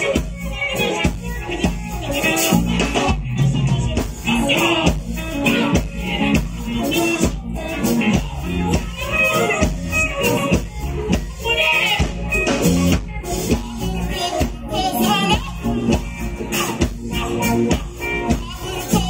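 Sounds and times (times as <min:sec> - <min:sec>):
live band music: 0:00.0 - 0:19.0
woman singing: 0:00.0 - 0:19.0.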